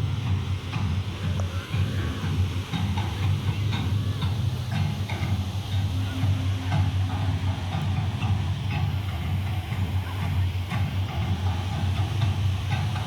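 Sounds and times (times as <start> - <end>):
faint distant voices: 0.0 - 13.0
low mechanical rumble: 0.0 - 13.0.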